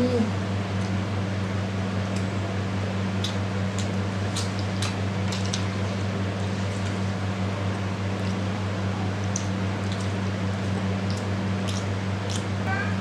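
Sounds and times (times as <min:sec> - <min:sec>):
electrical hum and fan noise: 0:00.0 - 0:13.0.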